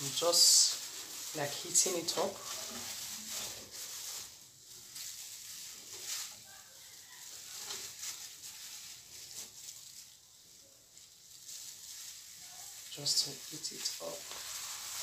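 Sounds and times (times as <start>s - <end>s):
plastic gloves crinkling: 0.0s - 15.0s.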